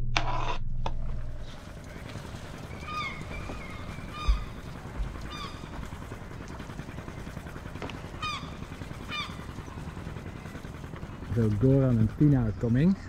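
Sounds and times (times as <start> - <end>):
harbour ambience: 1.0 - 13.0
gulls calling: 1.4 - 13.0.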